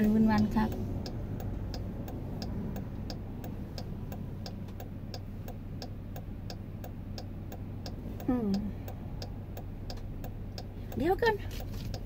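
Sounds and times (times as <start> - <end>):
car cabin hum: 0.0 - 12.0
turn signal ticking: 0.0 - 12.0.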